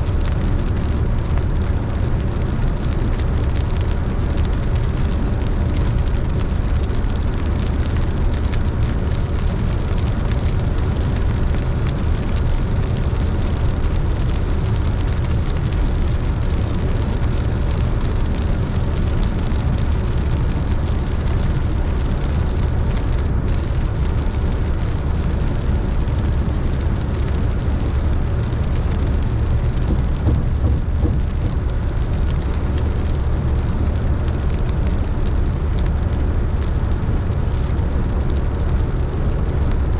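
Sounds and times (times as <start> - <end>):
rain and spray hissing: 0.0 - 39.9
tyres and engine rumbling: 0.0 - 39.9.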